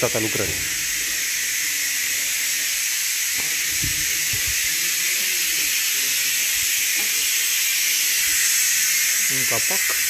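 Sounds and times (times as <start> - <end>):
steady loud hiss: 0.0 - 10.0.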